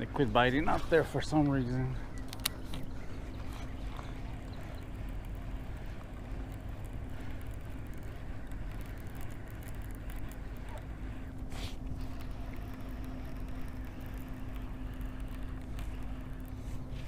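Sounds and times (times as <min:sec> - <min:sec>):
low rumbling hum: 0:00.0 - 0:17.0.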